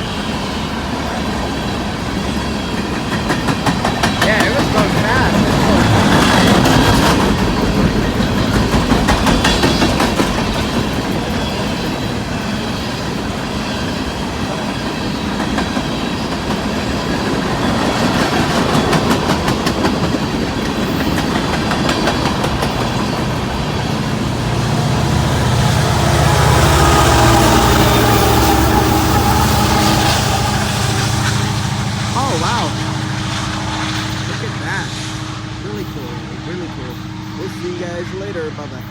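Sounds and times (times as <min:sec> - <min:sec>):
train wheels clicking over rail joints: 0:00.0 - 0:32.3.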